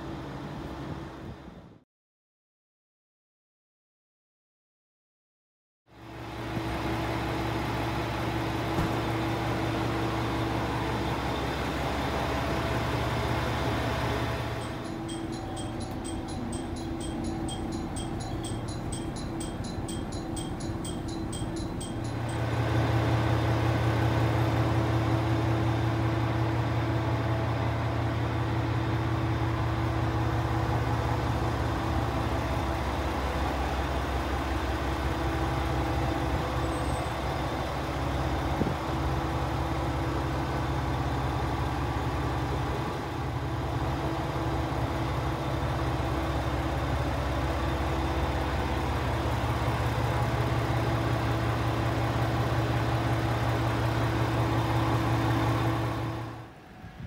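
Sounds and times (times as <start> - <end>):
diesel engine idling: 6.0 - 57.0.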